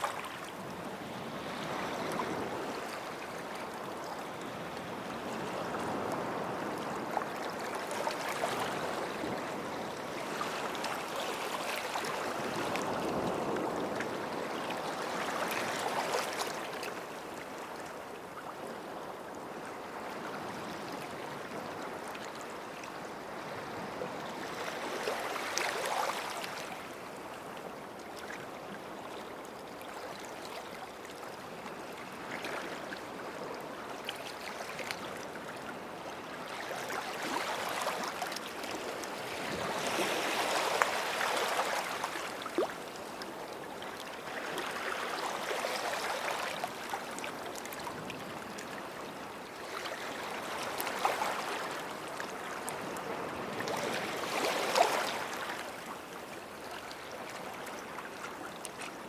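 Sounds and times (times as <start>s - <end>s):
waves washing on beach: 0.0s - 27.7s, 30.2s - 59.0s.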